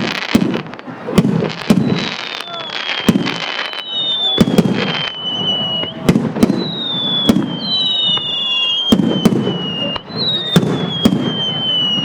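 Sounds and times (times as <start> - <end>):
descending whistling fireworks: 0.0 - 12.0
fireworks bangs: 0.0 - 12.0.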